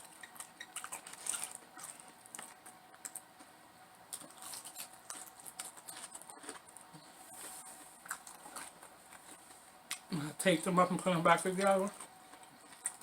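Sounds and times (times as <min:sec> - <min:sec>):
chewing and mouth noises: 0:00.0 - 0:10.2, 0:11.6 - 0:13.0.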